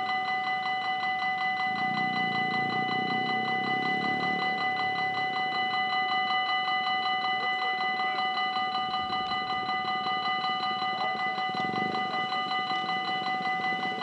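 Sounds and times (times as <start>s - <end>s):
level crossing warning bell ringing: 0.0s - 14.0s.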